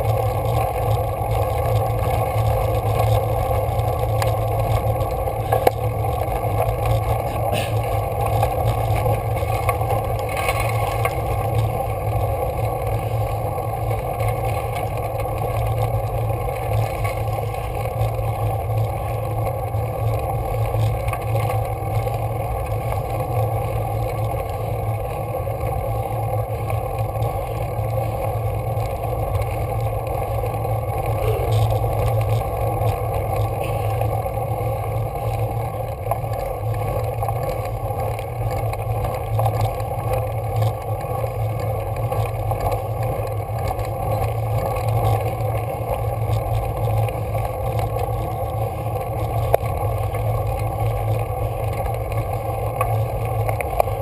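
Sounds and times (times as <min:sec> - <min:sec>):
bicycle rumbling on gravel road: 0:00.0 - 0:54.0.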